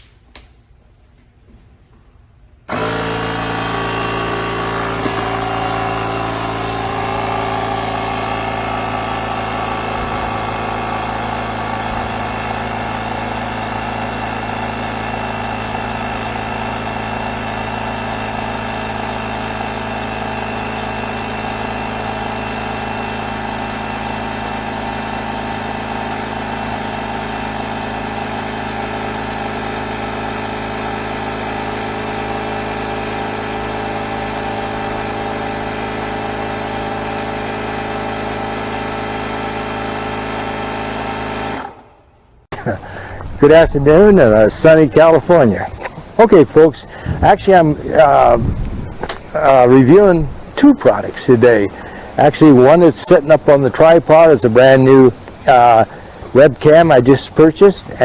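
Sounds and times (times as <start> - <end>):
small engine running: 2.7 - 58.0.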